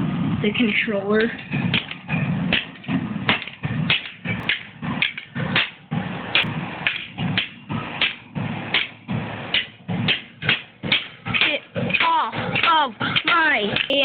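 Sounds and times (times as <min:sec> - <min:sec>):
hammer bashing plastic parts: 0:01.5 - 0:14.0.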